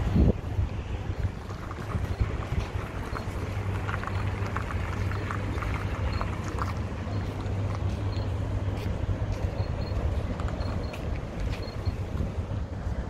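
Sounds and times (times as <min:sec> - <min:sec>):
steady low rumble: 0:00.0 - 0:13.0
wind noise on microphone: 0:00.0 - 0:13.0.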